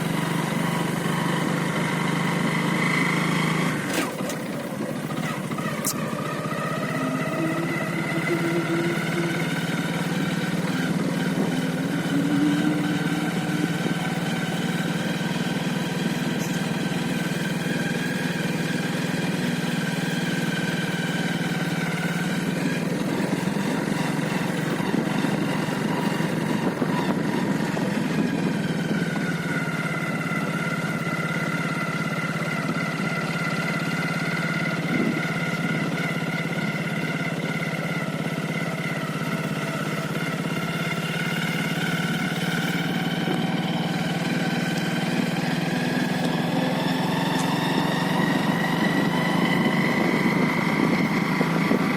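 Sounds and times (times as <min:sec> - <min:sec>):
engine drone with whine: 0:00.0 - 0:51.9.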